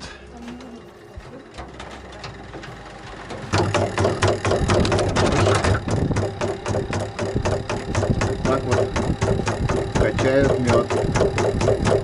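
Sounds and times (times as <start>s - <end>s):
honey extractor clattering: 0.0s - 12.0s
low hum: 0.0s - 12.0s.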